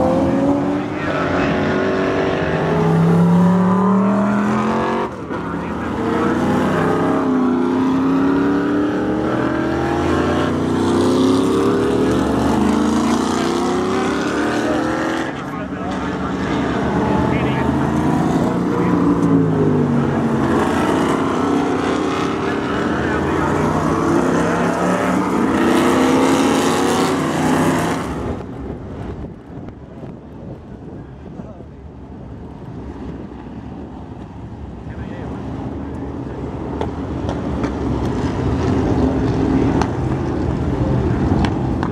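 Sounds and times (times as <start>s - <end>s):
racing car engines accelerating: 0.0s - 30.1s, 32.4s - 41.9s.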